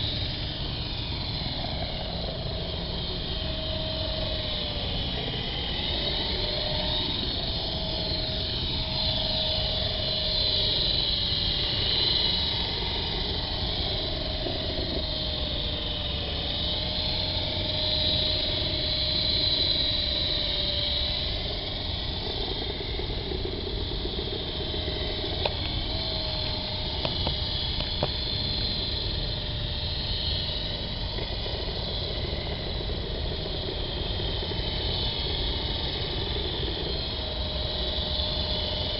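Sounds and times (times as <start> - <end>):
model helicopter rotors whirring: 0.0 - 38.9.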